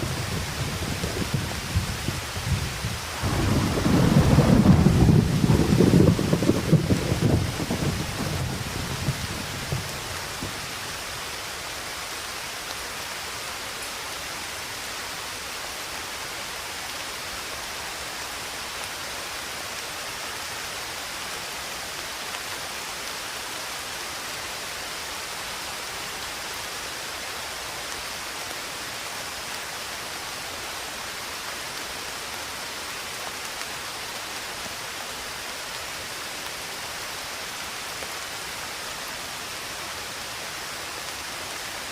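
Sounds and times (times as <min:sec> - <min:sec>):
heavy rain hiss: 0:00.0 - 0:41.9.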